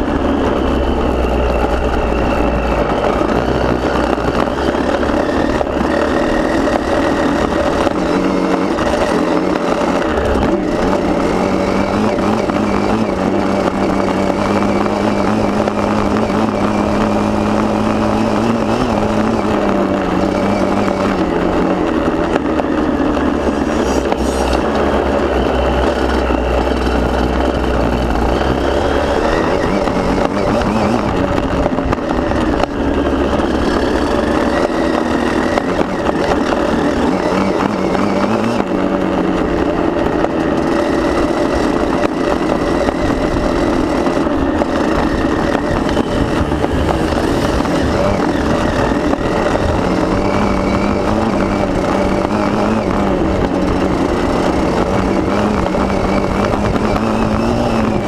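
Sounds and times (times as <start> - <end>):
motocross bike engine: 0.0 - 58.0.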